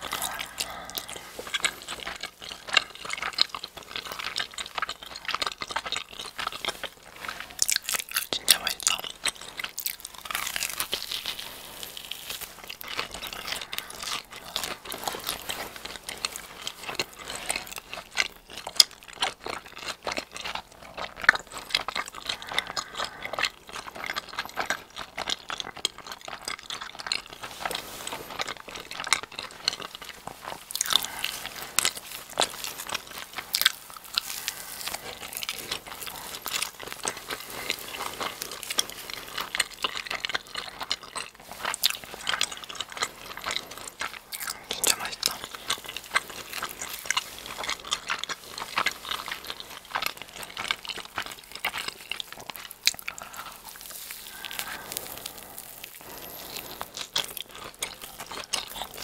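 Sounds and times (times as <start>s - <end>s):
mouth clicks and smacks: 0.0s - 11.4s, 12.3s - 59.0s
biting and chewing bread: 0.0s - 59.0s.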